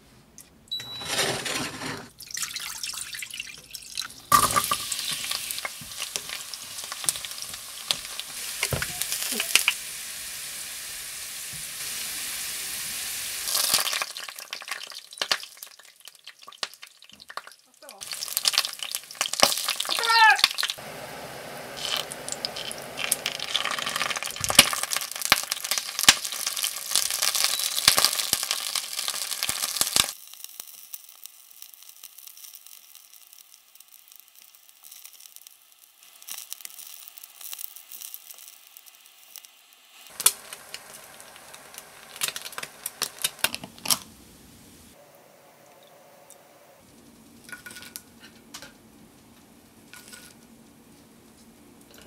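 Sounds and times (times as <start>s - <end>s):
sausages frying faintly: 0.2s - 52.0s
garlic sizzling in oil: 2.1s - 45.0s.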